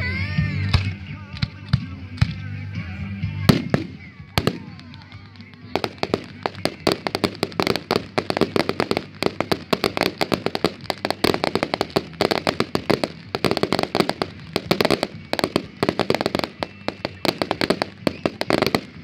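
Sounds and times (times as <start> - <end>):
fireworks popping and crackling: 3.4 - 19.0.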